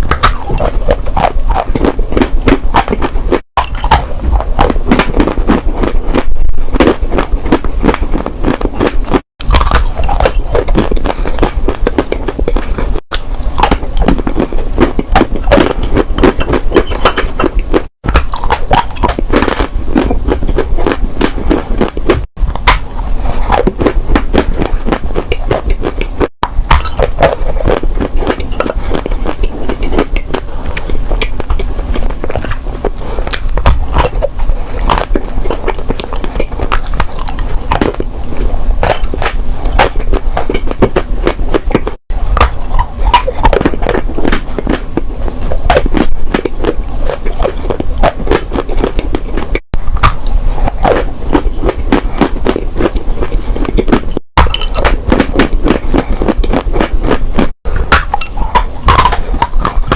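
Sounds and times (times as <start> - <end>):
crunching brittle clay chunks: 0.0 - 59.9.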